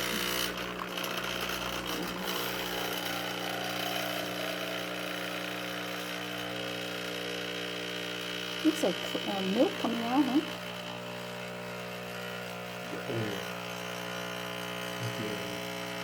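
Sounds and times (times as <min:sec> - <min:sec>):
espresso machine buzzing: 0:00.0 - 0:16.0.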